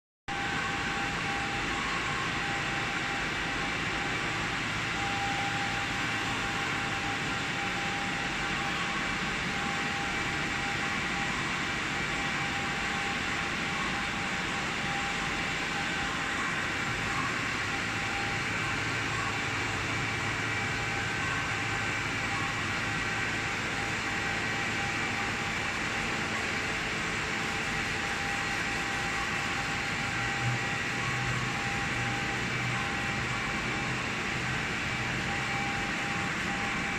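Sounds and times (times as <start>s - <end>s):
machinery whining tones: 0.3s - 36.9s.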